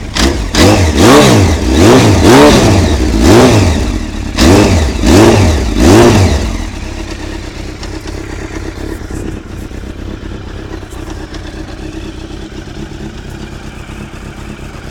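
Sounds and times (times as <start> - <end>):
motorcycle engine blip and idle: 0.0 - 14.9.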